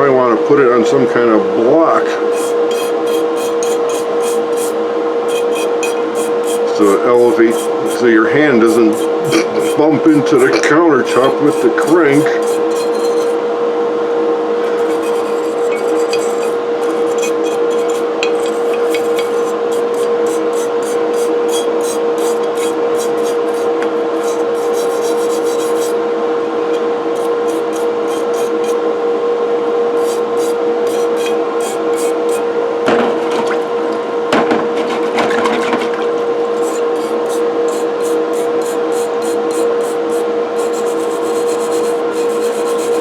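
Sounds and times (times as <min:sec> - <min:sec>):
steady hum: 0:00.0 - 0:43.0
brush scrubbing metal: 0:02.2 - 0:13.4, 0:14.6 - 0:26.0, 0:26.7 - 0:28.9, 0:29.9 - 0:43.0.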